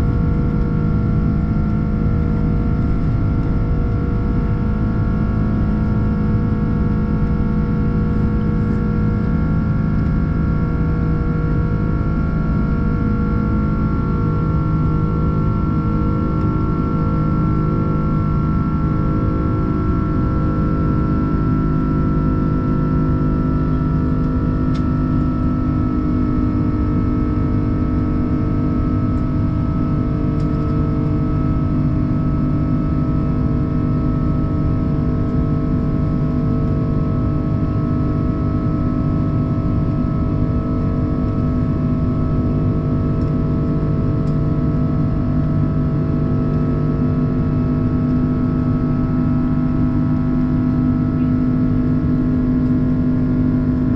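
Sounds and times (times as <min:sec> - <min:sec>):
aircraft cabin engine hum: 0:00.0 - 0:53.9.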